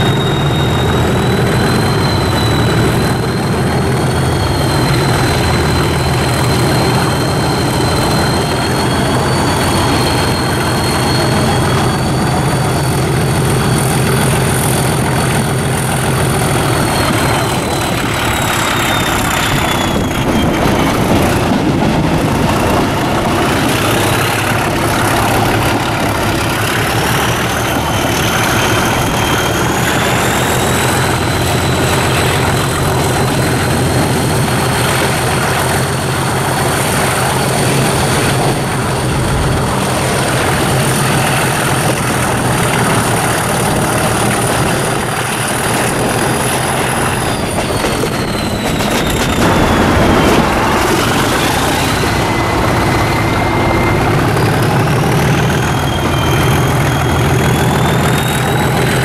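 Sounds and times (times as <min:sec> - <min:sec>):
diesel locomotive engine beat: 0:00.0 - 0:59.0
high turbocharger whistle: 0:00.0 - 0:59.0
running train noise: 0:00.0 - 0:59.0.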